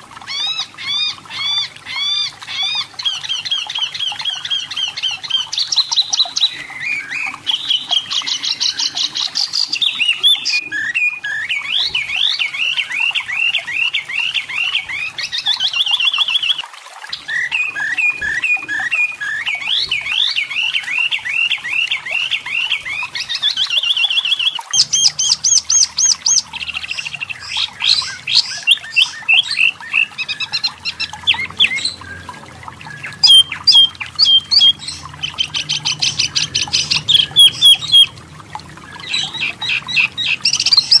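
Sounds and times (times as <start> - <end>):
bird singing chirps and trills: 0.0 - 41.0.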